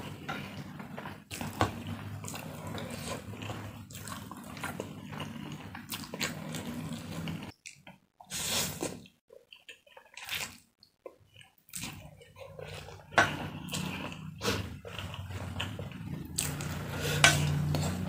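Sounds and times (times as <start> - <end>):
slurping and chewing noodles: 1.3 - 7.6, 8.2 - 18.0.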